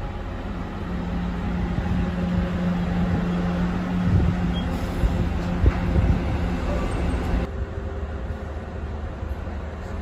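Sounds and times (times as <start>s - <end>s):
train engine hum: 0.0s - 10.0s
wheels rumbling on rails: 0.0s - 10.0s.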